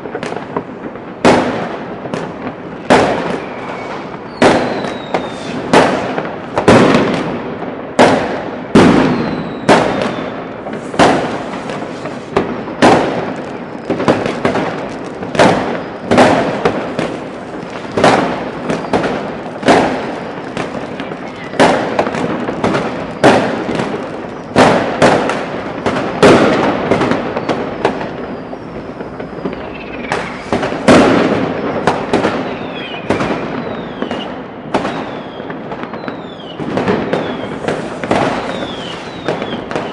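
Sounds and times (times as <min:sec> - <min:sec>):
firecrackers crackling: 0:00.0 - 0:39.9
fireworks banging: 0:00.0 - 0:39.9
rockets whistling: 0:02.3 - 0:06.7, 0:08.5 - 0:39.9.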